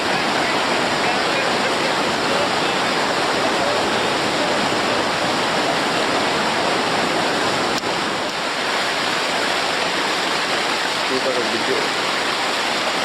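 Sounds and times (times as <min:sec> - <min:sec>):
river rapids roaring: 0:00.0 - 0:13.0.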